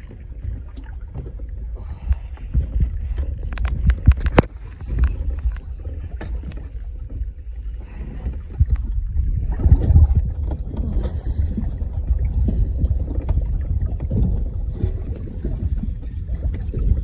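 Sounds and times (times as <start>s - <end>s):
water lapping against boat hull: 0.0s - 17.0s
wind rumbling on microphone: 0.0s - 17.0s.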